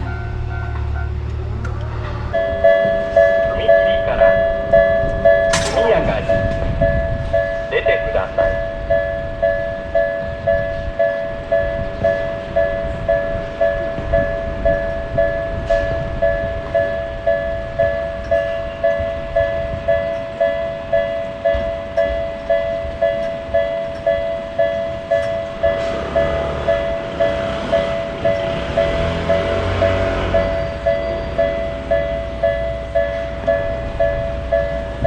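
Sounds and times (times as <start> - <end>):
train rumble: 0.0 - 35.0
level-crossing two-tone bell: 2.3 - 35.0.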